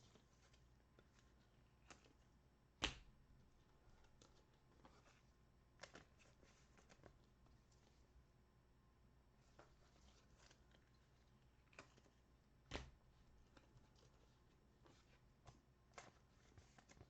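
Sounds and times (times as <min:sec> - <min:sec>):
cards rustling: 0:00.0 - 0:03.0, 0:03.6 - 0:08.1, 0:09.4 - 0:17.0.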